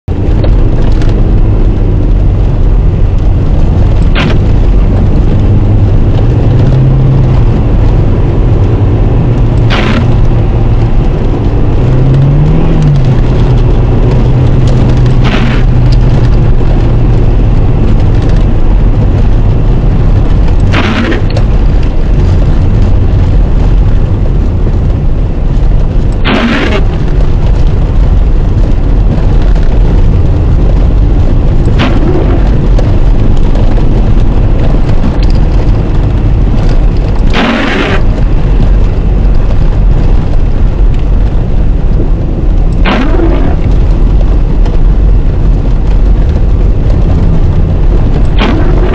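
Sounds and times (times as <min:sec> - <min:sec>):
car engine and tyres on snow: 0:00.0 - 0:48.9.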